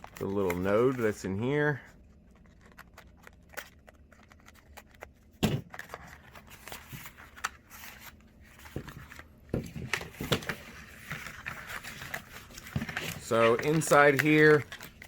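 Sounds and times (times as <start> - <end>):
packaging clicks and rustles: 0.0 - 15.0.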